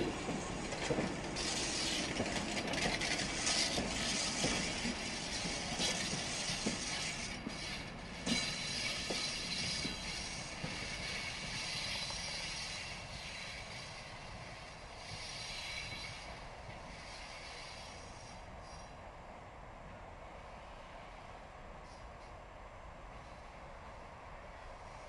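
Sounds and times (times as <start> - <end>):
diesel locomotive rolling: 0.0 - 25.0.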